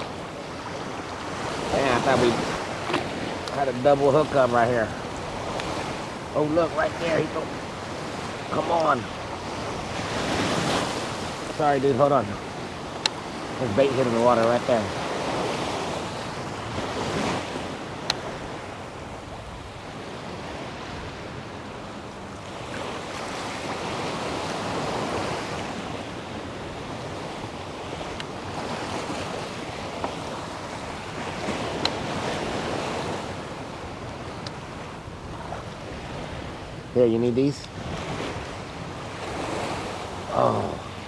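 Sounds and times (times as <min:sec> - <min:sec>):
shallow water washing: 0:00.0 - 0:41.0
wind on microphone: 0:00.0 - 0:41.0.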